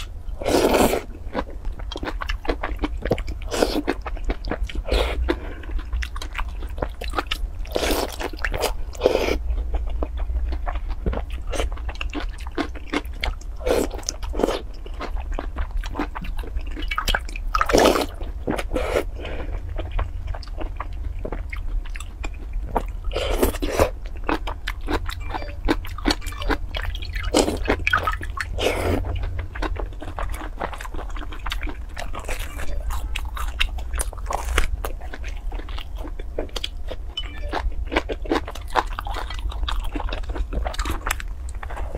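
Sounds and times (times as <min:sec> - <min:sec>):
chewing fried dough: 0:00.0 - 0:41.9
low hum: 0:00.0 - 0:41.9.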